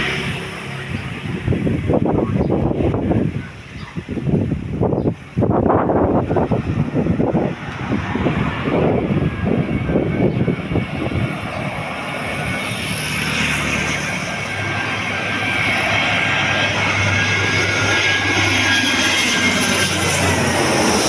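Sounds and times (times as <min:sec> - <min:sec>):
jet engine noise: 0:00.0 - 0:21.0
wind on microphone: 0:00.0 - 0:21.0.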